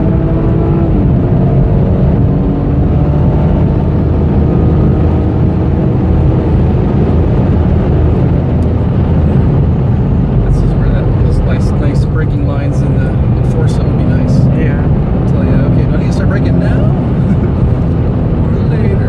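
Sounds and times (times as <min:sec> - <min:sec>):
car engine under load: 0:00.0 - 0:19.0
road and wind noise: 0:00.0 - 0:19.0.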